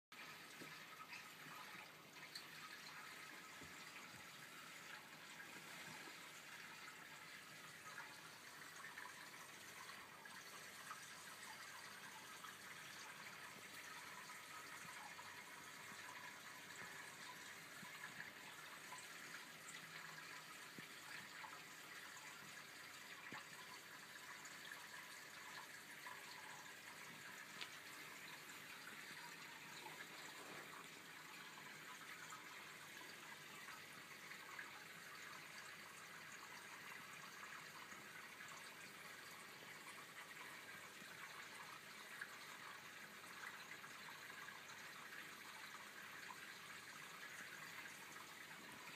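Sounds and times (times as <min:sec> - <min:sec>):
aquarium water trickling: 0:00.1 - 0:48.9.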